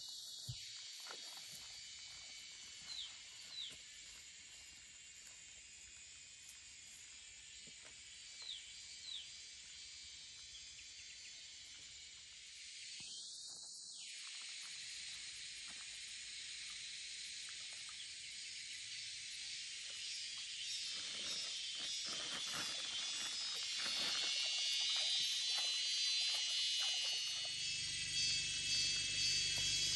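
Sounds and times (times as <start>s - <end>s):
insects chirring: 0.0s - 29.9s.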